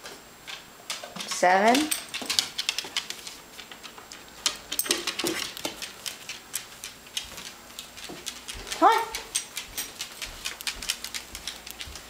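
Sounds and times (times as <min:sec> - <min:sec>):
dog claws tapping on floor: 0:00.0 - 0:12.0.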